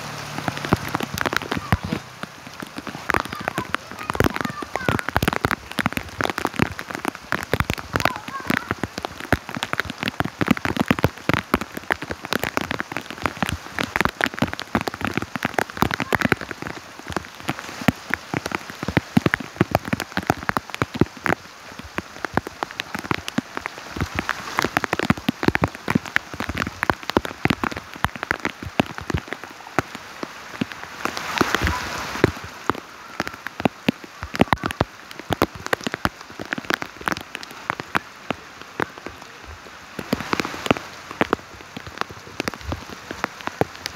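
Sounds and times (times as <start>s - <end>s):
heavy raindrops striking surface: 0.0s - 43.9s
steady rain: 0.0s - 43.9s.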